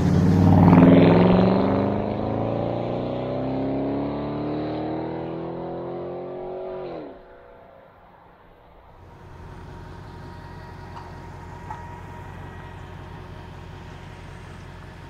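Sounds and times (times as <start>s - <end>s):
car engine accelerating past: 0.0s - 13.1s.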